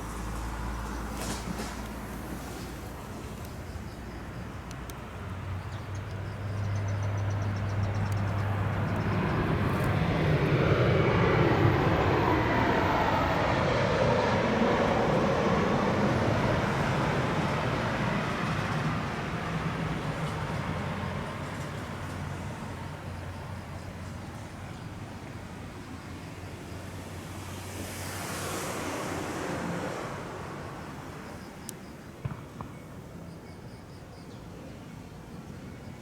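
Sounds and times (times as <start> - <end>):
jet airliner passing overhead: 0.0 - 36.0.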